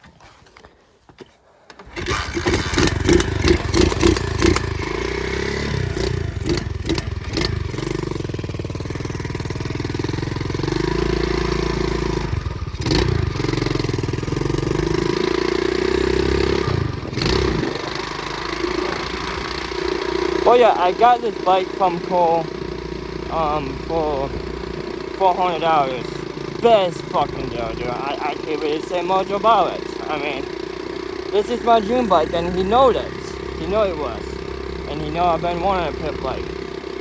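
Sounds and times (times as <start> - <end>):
pit bike engine revving: 1.8 - 37.0.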